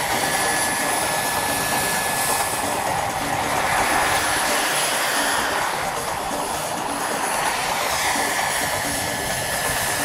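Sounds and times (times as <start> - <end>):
helicopter rotors rushing: 0.0 - 10.0
turbine whine: 0.0 - 10.0.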